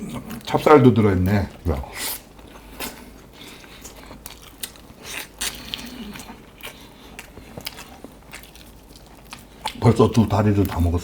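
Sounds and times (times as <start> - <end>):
chewing chicken: 0.0 - 11.0.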